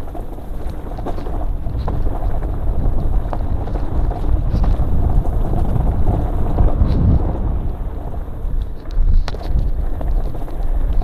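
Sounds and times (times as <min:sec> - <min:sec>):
bike rattling over rocks: 0:00.0 - 0:11.0
wind buffeting microphone: 0:00.0 - 0:11.0.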